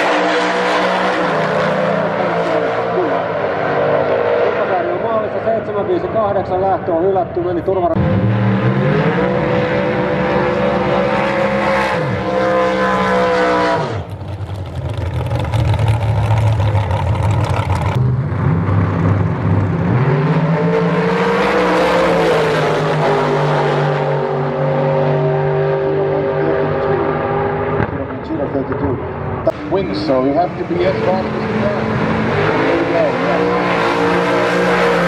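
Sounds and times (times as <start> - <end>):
drag racing engines revving: 0.0 - 35.0.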